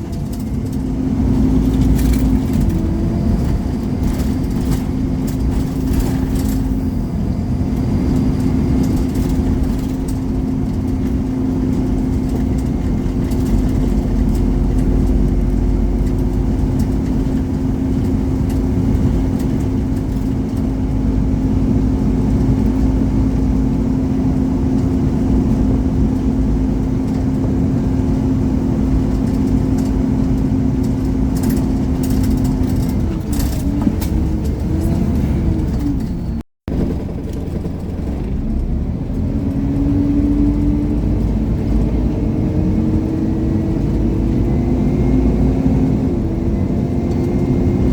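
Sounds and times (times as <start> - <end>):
bus engine inside bus: 0.0 - 47.9
constant rumble: 0.0 - 47.9.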